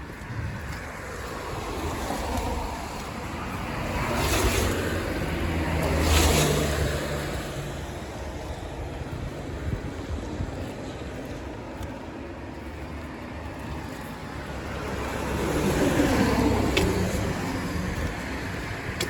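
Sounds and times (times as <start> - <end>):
outdoor background noise: 0.0 - 19.0
vehicles passing on wet road: 0.0 - 19.0.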